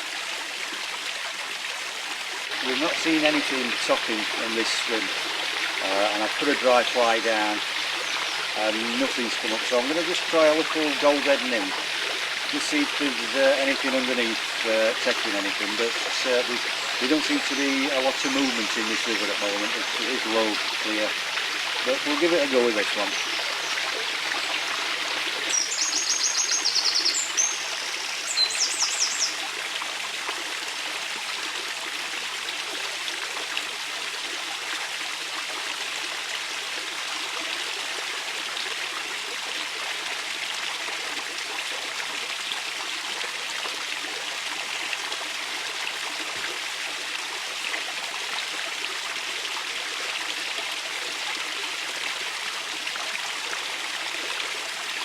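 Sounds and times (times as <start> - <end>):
river running over stones: 0.0 - 55.0.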